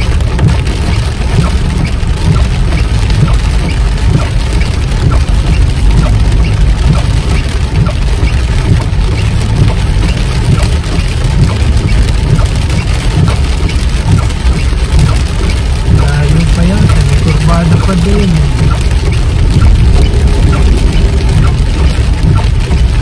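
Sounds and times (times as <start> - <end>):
car engine and tyres on wet road: 0.0 - 23.0
rain hitting car: 0.0 - 23.0.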